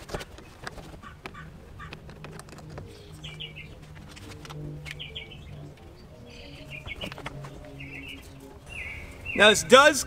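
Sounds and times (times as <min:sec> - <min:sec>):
songbird chirping: 0:00.2 - 0:10.0.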